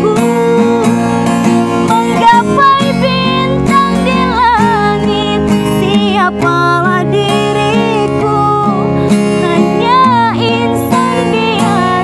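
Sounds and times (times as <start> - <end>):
woman singing: 0.0 - 1.2, 1.8 - 12.0
acoustic guitar: 0.0 - 12.0.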